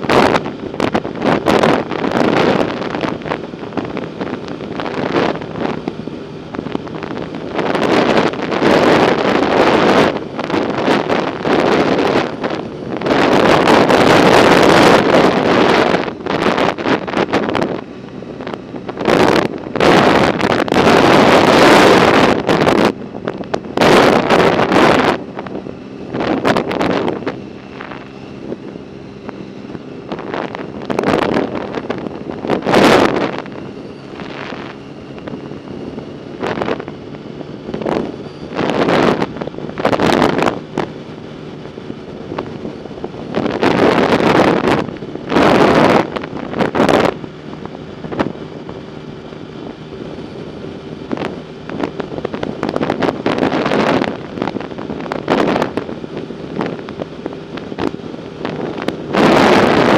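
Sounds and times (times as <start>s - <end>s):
steady low hum: 0.0s - 59.9s
wind buffeting microphone: 0.0s - 59.9s.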